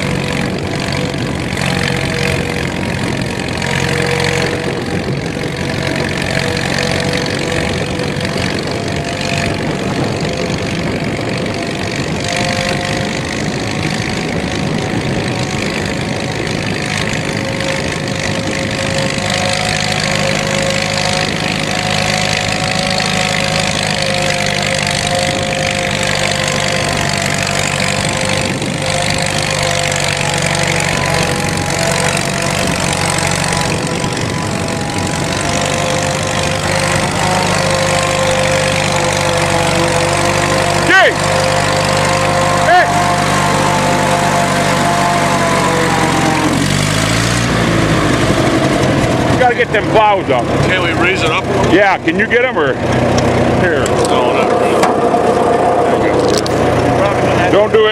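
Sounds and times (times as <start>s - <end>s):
tractor engine running under load: 0.0s - 57.9s
transmission growling: 0.0s - 57.9s.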